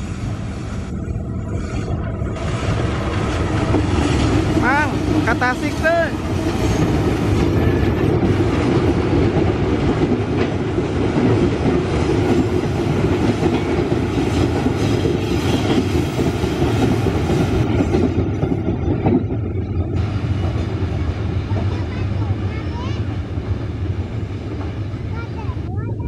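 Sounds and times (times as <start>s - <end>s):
freight train wheels on rails: 0.0s - 26.0s.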